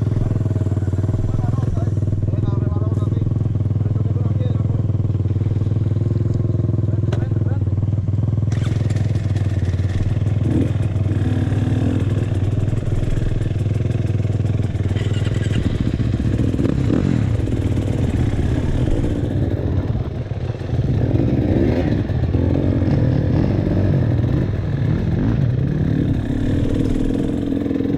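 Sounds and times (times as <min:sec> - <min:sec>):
dirt bike engine revving: 0:00.0 - 0:07.7, 0:08.4 - 0:27.9.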